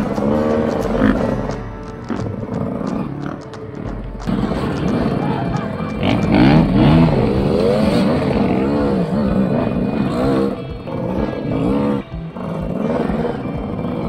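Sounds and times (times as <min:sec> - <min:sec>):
background music: 0:00.0 - 0:14.0
dirt bike engines revving: 0:00.0 - 0:14.0.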